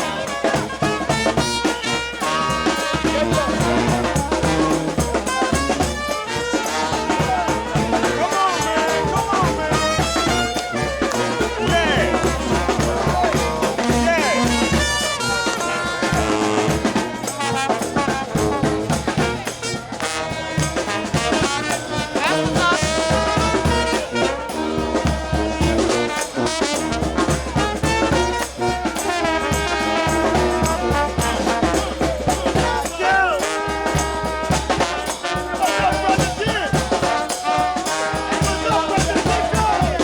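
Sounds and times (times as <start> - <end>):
steady drum beat: 0.0 - 40.0
trombones: 0.0 - 40.0
trumpets: 0.0 - 40.0.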